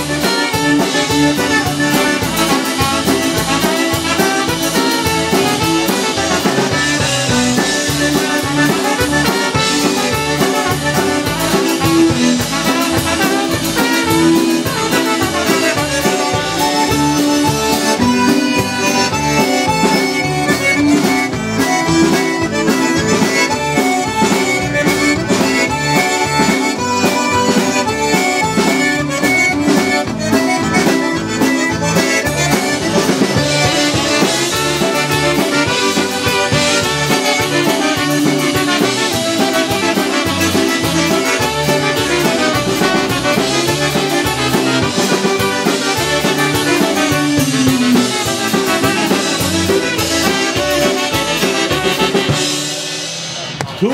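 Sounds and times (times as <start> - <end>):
tenor saxophone: 0.0 - 53.2
accordion: 0.0 - 53.9
bass guitar: 0.0 - 53.9
concertina: 0.0 - 53.9
drums: 0.0 - 53.9
trumpet: 0.0 - 53.9.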